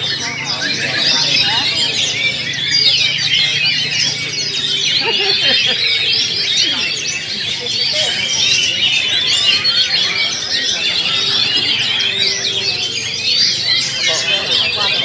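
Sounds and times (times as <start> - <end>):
chorus of birds singing: 0.0 - 15.0.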